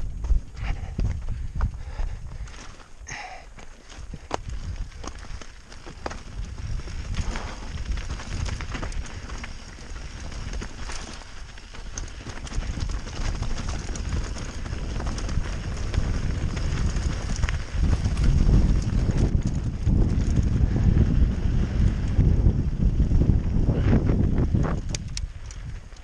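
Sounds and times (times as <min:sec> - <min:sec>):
bike tyres crunching over stones: 0:00.0 - 0:26.0
wind buffeting microphone: 0:00.0 - 0:26.0
bike rattling clicks: 0:03.7 - 0:26.0.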